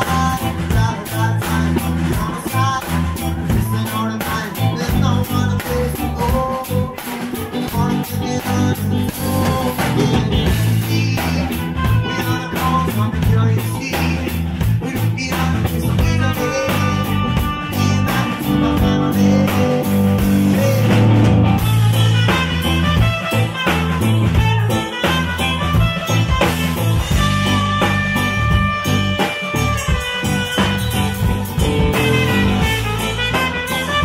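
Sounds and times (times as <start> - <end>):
drum kit steady beat: 0.0 - 34.0
electric bass line: 0.0 - 34.0
live rock band playing: 0.0 - 34.0.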